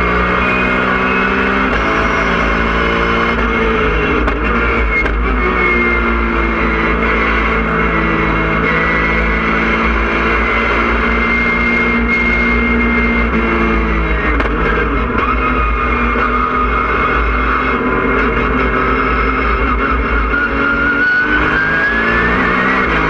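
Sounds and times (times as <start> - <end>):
race car engine from cockpit: 0.0 - 23.0.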